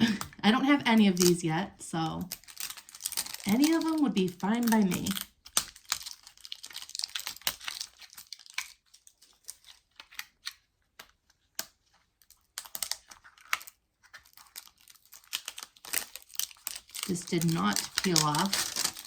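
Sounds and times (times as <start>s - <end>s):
plastic seal crinkling: 1.0s - 1.4s, 2.1s - 19.0s.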